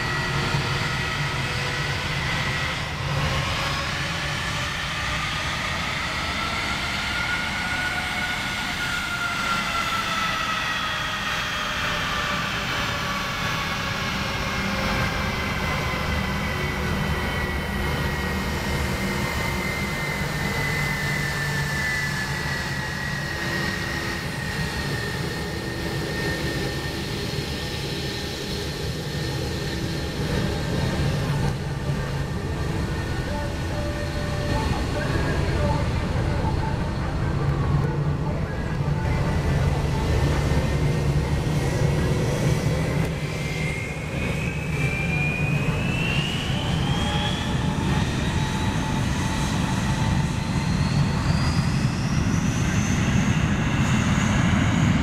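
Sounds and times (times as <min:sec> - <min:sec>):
jet engines taxiing whine: 0:00.0 - 0:55.0.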